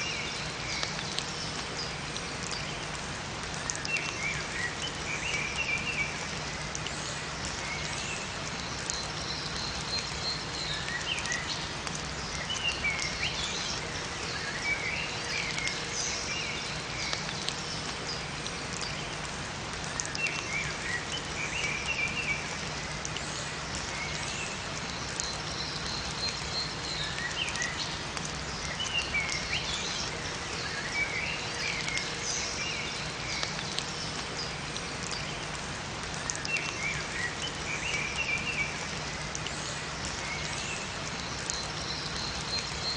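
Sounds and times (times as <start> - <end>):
songbirds chirping: 0.0 - 42.9
steady rain falling: 0.0 - 42.9.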